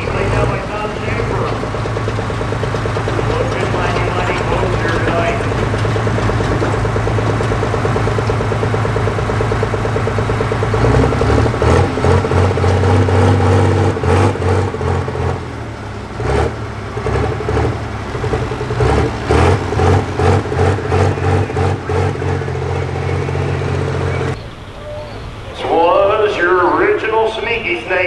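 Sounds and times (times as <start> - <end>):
diesel tractor engine surging: 0.0 - 28.0.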